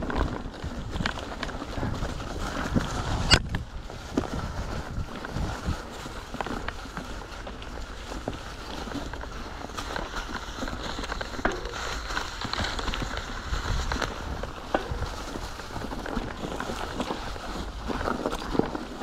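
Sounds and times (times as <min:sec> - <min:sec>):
bike tyres crunching on dirt: 0:00.0 - 0:19.0
wind rumble on microphone: 0:00.0 - 0:19.0.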